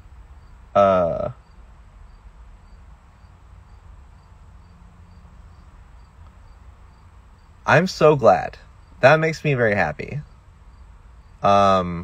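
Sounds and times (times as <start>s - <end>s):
cricket chirping: 0.0s - 12.0s
low steady rumble: 0.0s - 12.0s.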